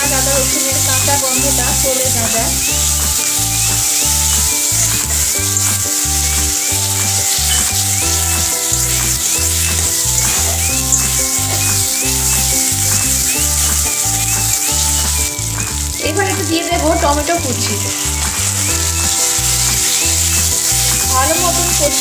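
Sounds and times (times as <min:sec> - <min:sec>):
background music with low beat: 0:00.0 - 0:22.0
onions sizzling in oil: 0:00.0 - 0:22.0
spatula stirring in pan: 0:00.0 - 0:22.0.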